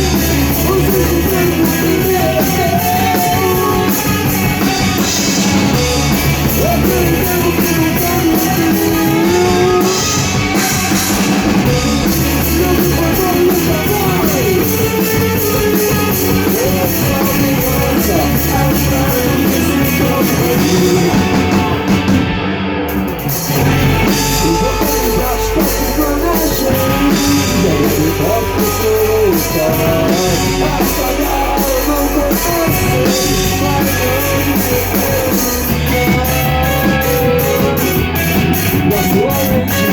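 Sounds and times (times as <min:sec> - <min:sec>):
person singing: 0:00.0 - 0:22.2, 0:23.4 - 0:39.9
rock band playing: 0:00.0 - 0:39.9.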